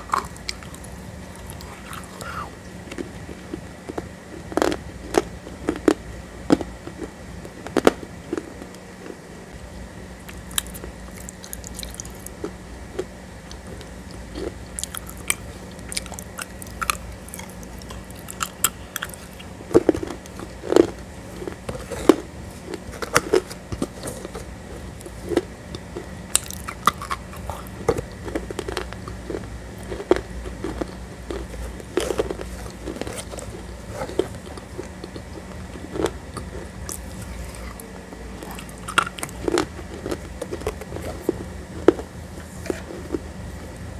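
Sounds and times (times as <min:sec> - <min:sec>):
crisp clicks and crackles: 0:00.0 - 0:09.2, 0:10.2 - 0:43.2
chewing and crunching: 0:00.0 - 0:09.3, 0:10.2 - 0:43.8.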